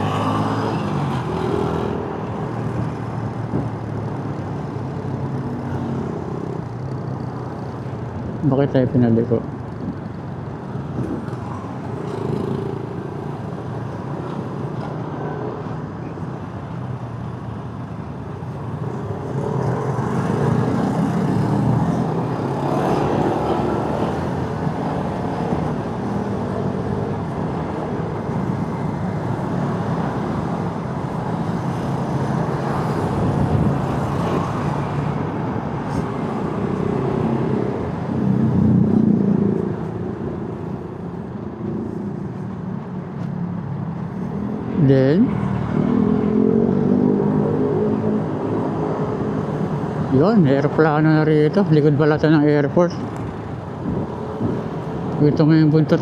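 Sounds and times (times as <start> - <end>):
surrounding traffic: 0.0 - 56.0
wind and road noise: 0.0 - 56.0.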